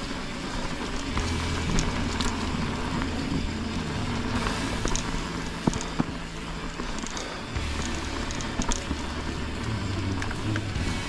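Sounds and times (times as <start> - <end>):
bike clicks and rattles: 0.0 - 11.0
tyres crunching on dirt and leaves: 0.0 - 11.0
wind rumble on microphone: 0.0 - 11.0.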